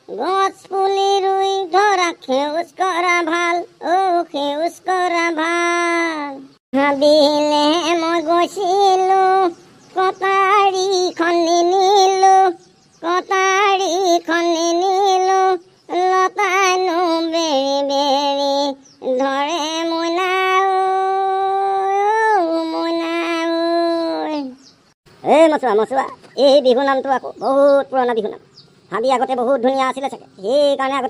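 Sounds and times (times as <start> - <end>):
high voice singing unaccompanied: 0.0 - 31.0.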